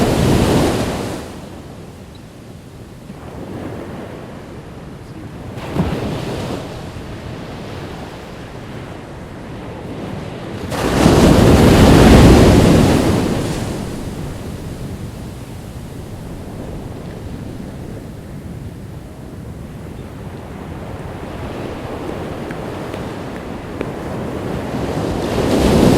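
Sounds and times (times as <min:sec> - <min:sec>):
large wave crashing: 0:00.0 - 0:01.8, 0:03.1 - 0:18.8, 0:20.2 - 0:25.9
ocean waves breaking: 0:00.0 - 0:25.9
wind on microphone: 0:00.0 - 0:25.9.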